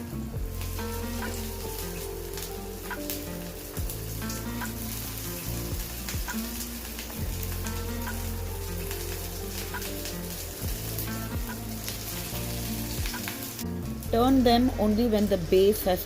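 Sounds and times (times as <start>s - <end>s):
food sizzling in hot oil: 0.0s - 16.0s
soft background music: 0.0s - 16.0s.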